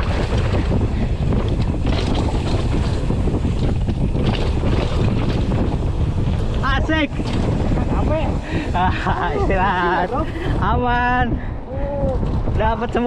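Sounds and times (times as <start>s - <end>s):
low rumble of tyres: 0.0s - 13.0s
wind rushing over microphone: 0.0s - 13.0s.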